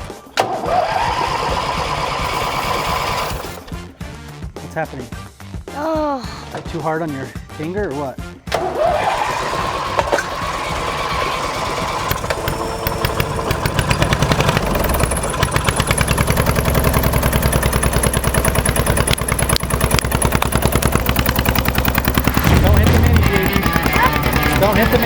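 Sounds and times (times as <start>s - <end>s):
small engine starting and popping: 0.0s - 4.1s, 8.5s - 25.0s.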